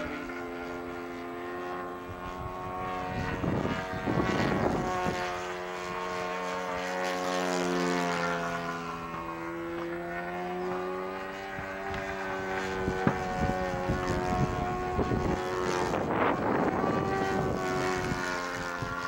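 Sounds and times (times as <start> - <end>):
model plane engine running: 0.0 - 19.0.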